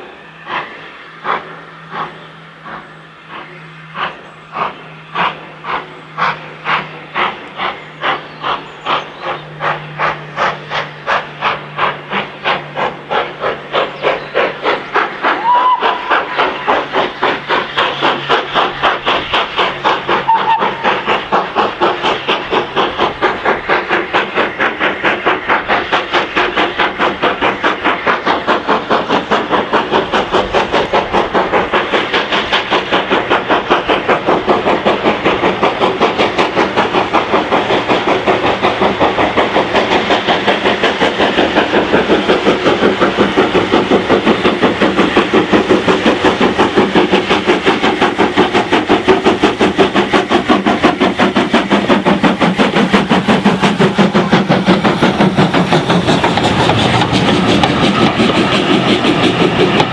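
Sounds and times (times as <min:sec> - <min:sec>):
coaches rumbling and clickety-clack: 0:00.0 - 0:59.9
steam locomotive exhaust beating: 0:00.0 - 0:59.9.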